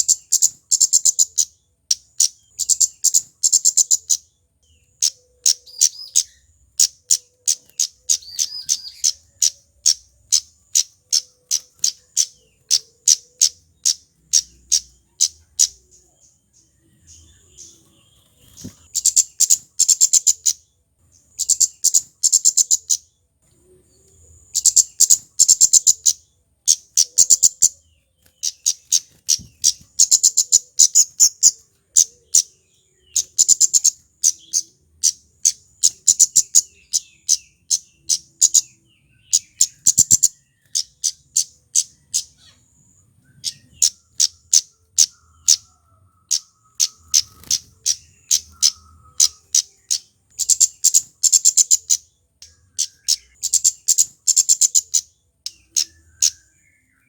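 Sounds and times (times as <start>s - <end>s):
bird calling high-pitched chips: 0.0s - 23.2s, 23.9s - 57.0s.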